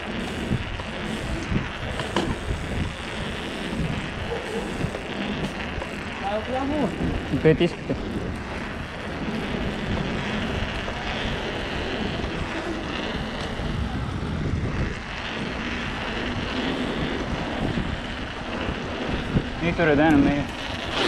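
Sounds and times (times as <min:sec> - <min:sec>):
bike tyres rolling on pavers: 0:00.0 - 0:21.0
wind buffeting microphone: 0:00.0 - 0:21.0.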